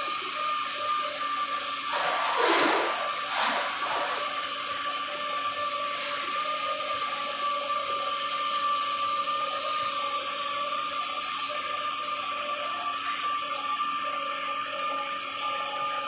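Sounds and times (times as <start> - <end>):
high machine whine: 0.0 - 16.0.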